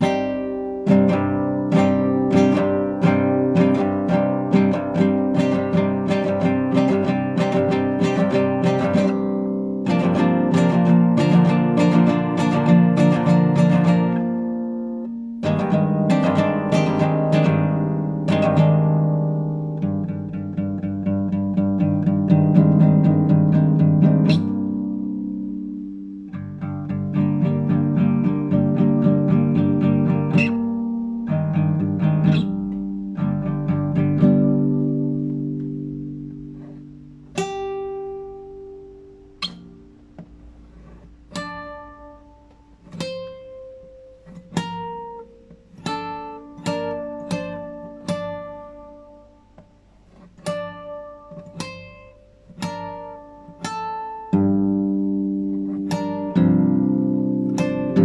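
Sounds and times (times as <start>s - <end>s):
classical guitar playing: 0.0s - 58.0s.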